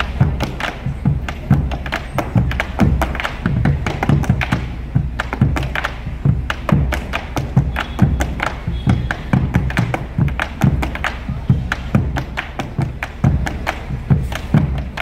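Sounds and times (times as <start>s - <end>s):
deep thumps: 0.0s - 15.0s
sharp taps and stamps: 0.0s - 15.0s.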